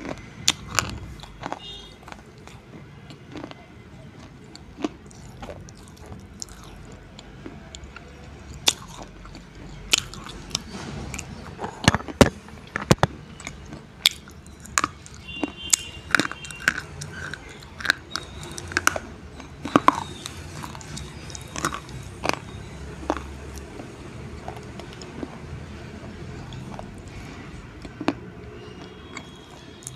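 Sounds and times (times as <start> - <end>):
pencils crunching between teeth: 0.0 - 29.9.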